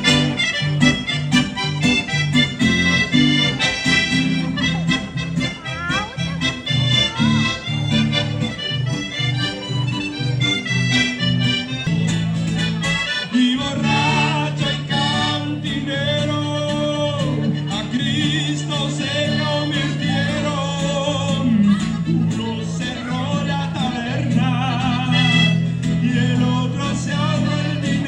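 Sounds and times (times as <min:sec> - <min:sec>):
accordion-led music: 0:00.0 - 0:28.0
pulsing bass line: 0:00.0 - 0:28.0.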